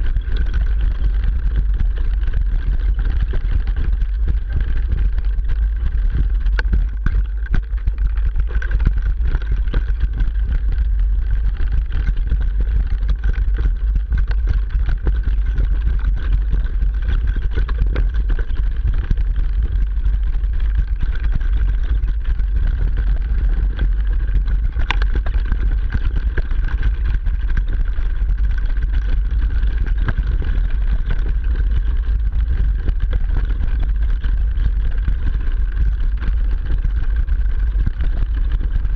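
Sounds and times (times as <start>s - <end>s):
bike suspension rumble: 0.0s - 38.9s
steady high hum: 0.0s - 38.9s.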